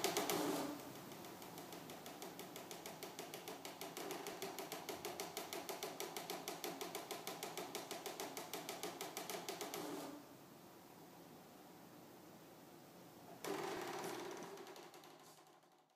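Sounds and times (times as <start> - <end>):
faint room hiss: 0.0 - 15.9.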